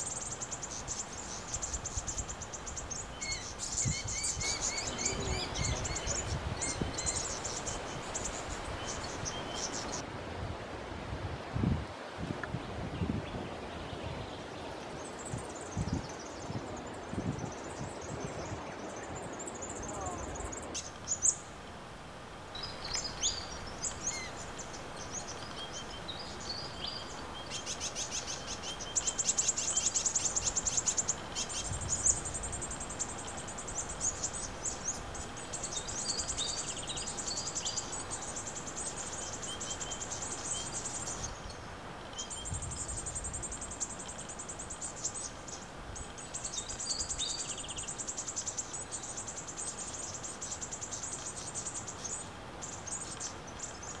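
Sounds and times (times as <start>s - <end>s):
birds chirping and chattering: 0.0s - 10.0s, 18.8s - 54.0s.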